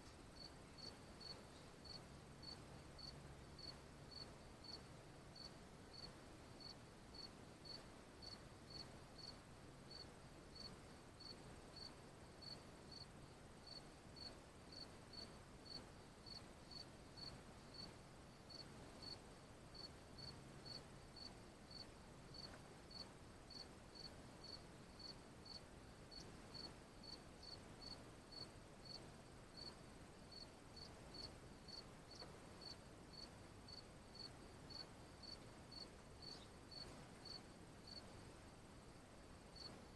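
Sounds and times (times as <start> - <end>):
low hiss: 0.0 - 39.9
insect chirping: 0.4 - 39.9.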